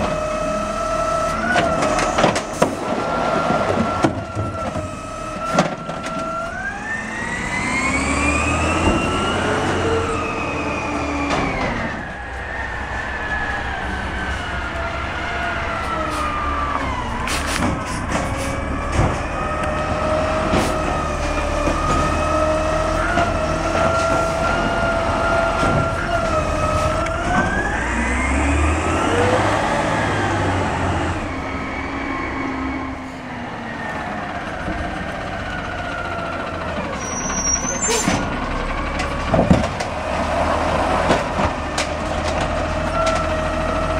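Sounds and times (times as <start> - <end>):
garbage truck whining: 0.0 - 43.9.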